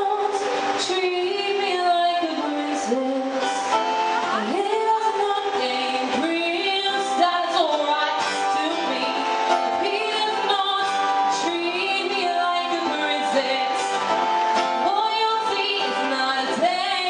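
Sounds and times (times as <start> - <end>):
strummed acoustic guitar: 0.0 - 17.0
woman singing into microphone: 0.0 - 17.0.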